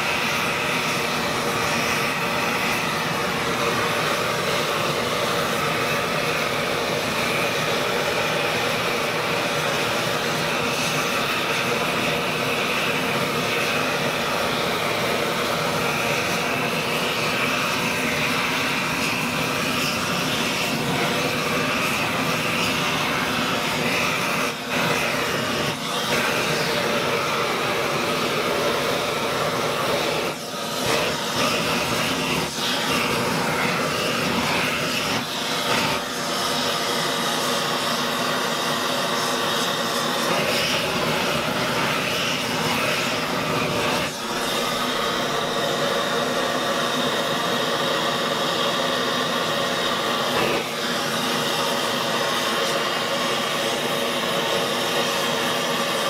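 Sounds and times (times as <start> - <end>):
propane torches rushing flame: 0.0 - 56.0.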